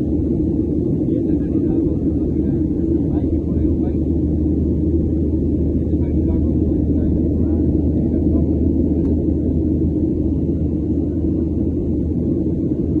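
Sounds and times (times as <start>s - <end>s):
jet engines and airflow rumble: 0.0s - 13.0s.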